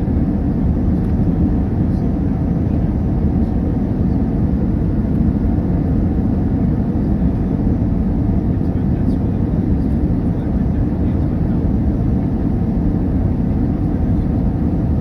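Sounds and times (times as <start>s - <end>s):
jet cabin engine rumble: 0.0s - 15.0s.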